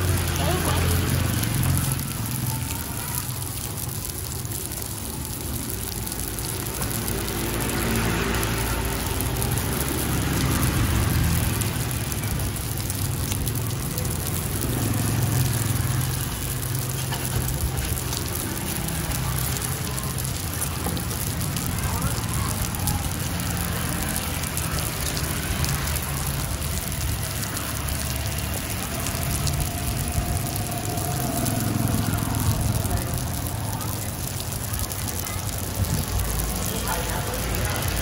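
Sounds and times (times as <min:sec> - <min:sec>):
batter sizzling in pans: 0:00.0 - 0:34.0.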